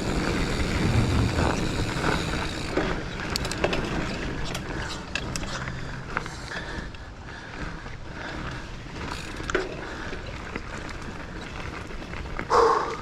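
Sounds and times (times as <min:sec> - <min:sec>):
bike frame and chain rattle: 0:00.0 - 0:12.9
bike tyre rumble on dirt: 0:00.0 - 0:13.0.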